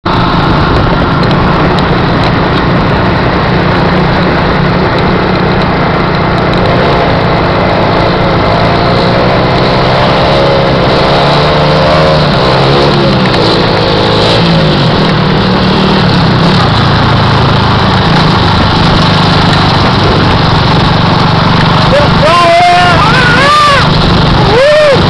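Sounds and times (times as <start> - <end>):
motorcycle engine running hard: 0.0 - 25.0.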